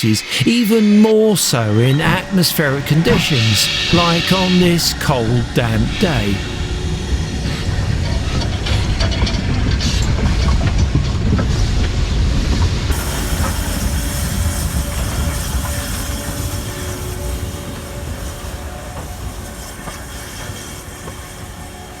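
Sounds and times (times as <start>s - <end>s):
steam hiss: 0.0s - 10.6s, 11.3s - 22.0s
steam train rumble: 0.0s - 22.0s
train wheels clacking on track: 2.0s - 22.0s.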